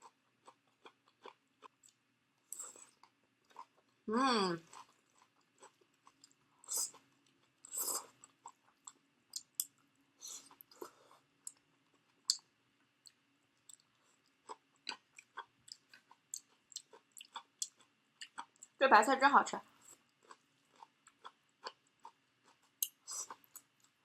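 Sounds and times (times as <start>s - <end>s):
chewing crunchy cabbage: 0.0s - 4.0s, 4.6s - 18.8s, 19.8s - 24.0s.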